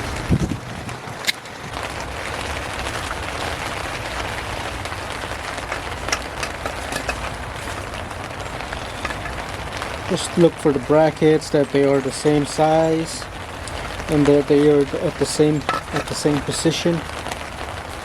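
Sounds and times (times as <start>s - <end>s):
rain falling on surfaces: 0.0s - 18.0s.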